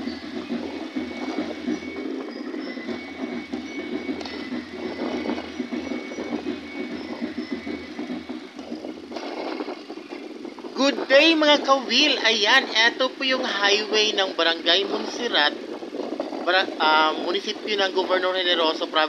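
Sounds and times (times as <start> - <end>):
engine and road noise: 0.0 - 17.3
air rushing past microphone: 0.0 - 18.5.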